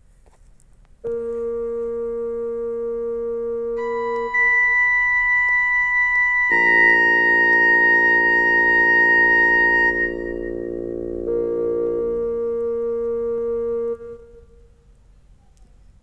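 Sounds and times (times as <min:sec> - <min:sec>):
keyboard playing slow tune: 0:01.1 - 0:15.0.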